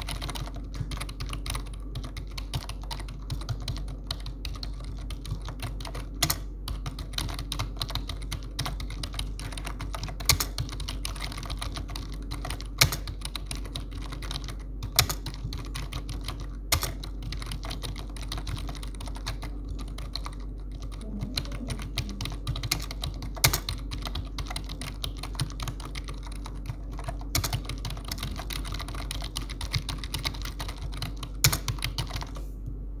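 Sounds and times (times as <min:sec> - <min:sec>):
typing on a computer keyboard: 0:00.0 - 0:32.4.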